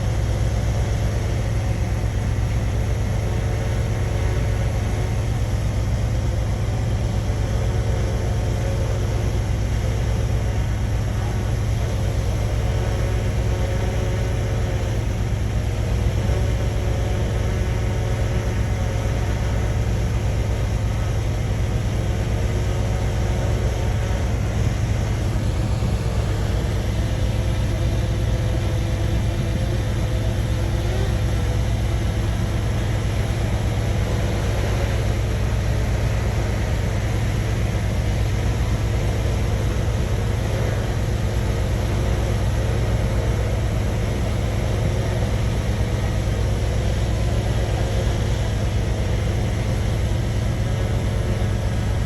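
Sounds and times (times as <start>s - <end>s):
heavy machine diesel engine running: 0.0s - 52.0s.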